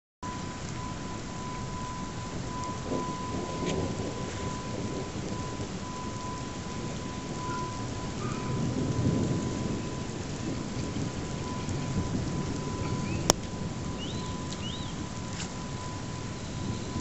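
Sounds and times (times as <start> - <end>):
thunder rumbling: 0.2 - 17.0.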